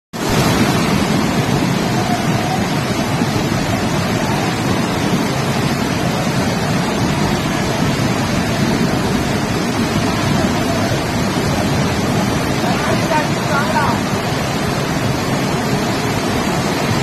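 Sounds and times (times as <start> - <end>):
rushing floodwater: 0.2 - 17.0.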